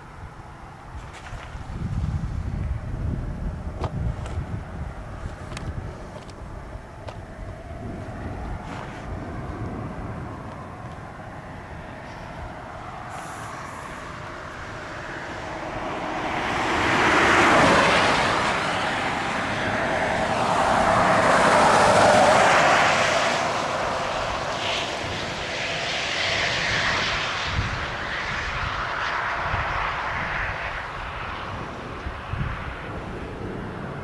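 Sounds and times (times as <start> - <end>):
vehicles passing by: 0.0 - 34.0.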